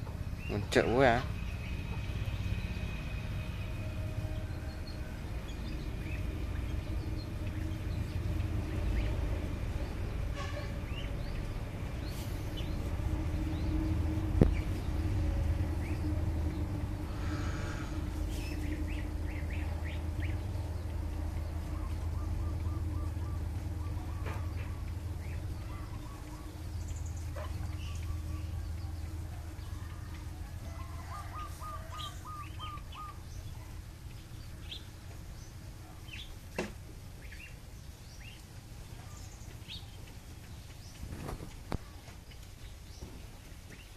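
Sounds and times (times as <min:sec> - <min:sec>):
birds chirping: 0:00.0 - 0:43.9
low steady hum: 0:00.0 - 0:43.9.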